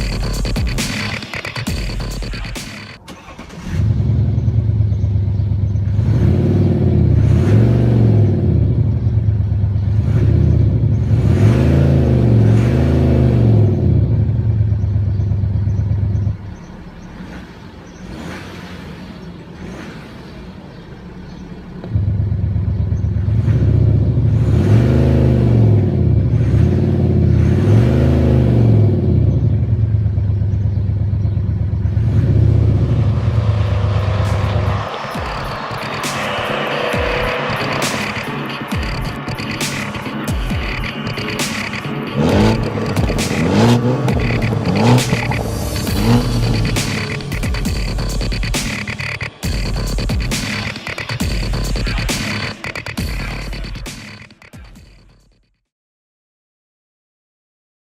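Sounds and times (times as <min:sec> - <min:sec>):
car engine droning and revving: 0:00.0 - 0:55.5.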